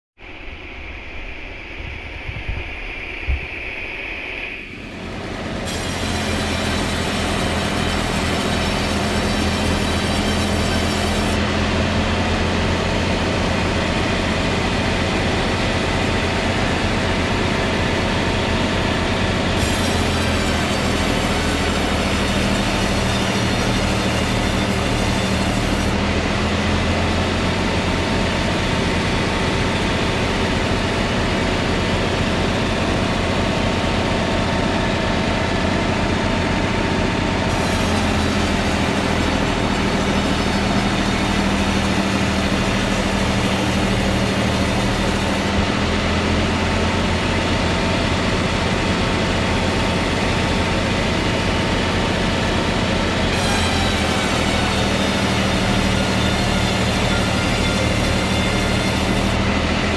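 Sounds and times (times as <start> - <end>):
machine hum with high tone: 0.2 - 59.9.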